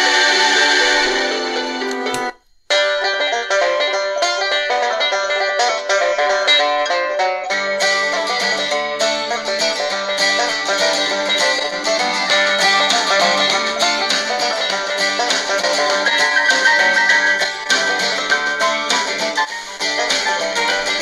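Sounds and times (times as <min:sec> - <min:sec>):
banjo music from small radio speaker: 0:00.0 - 0:21.0.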